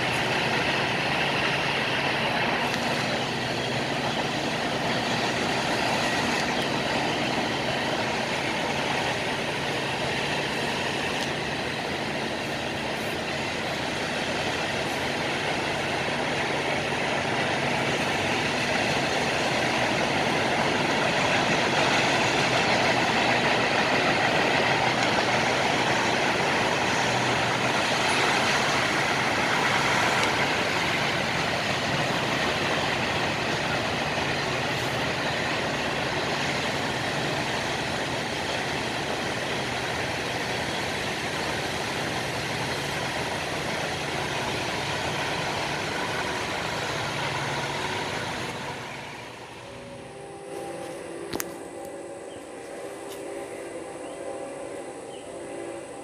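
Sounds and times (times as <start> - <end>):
freight train rolling on rails: 0.0 - 56.0.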